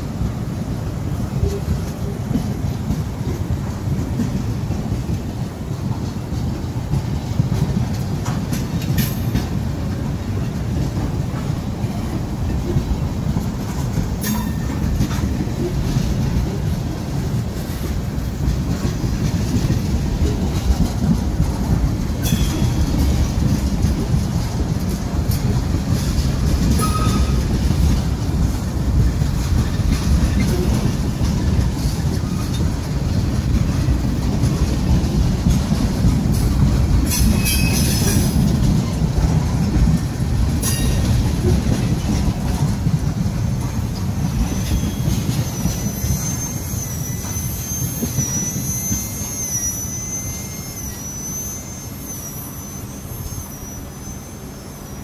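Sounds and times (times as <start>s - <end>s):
train wheels rumbling on rail: 0.0s - 55.0s
freight cars clanking: 0.7s - 51.5s.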